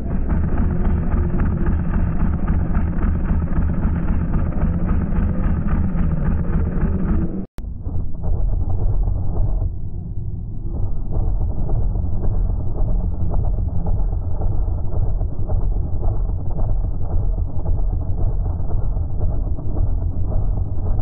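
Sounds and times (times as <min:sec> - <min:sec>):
muffled rumbling street noise: 0:00.0 - 0:21.0.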